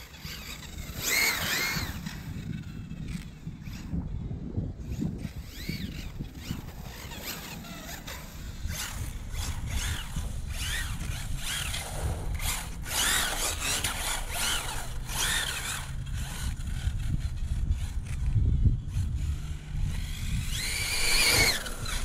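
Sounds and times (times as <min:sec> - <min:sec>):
toy truck electric motor whining: 0:00.0 - 0:04.2, 0:04.8 - 0:22.0.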